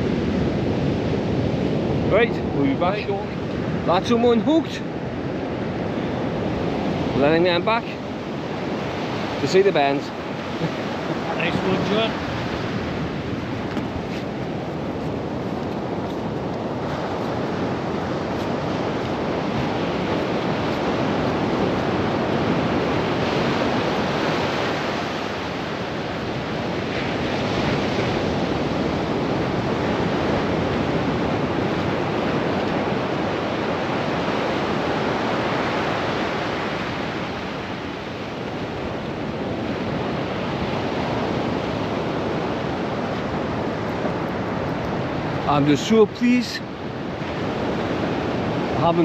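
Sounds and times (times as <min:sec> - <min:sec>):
sea surf on a beach: 0:00.0 - 0:49.0
wind on the microphone: 0:00.0 - 0:49.0.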